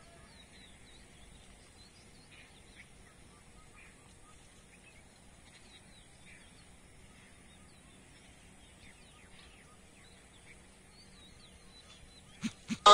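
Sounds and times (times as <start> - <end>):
background hiss: 0.0 - 12.9
faint bird chirps: 0.0 - 12.9.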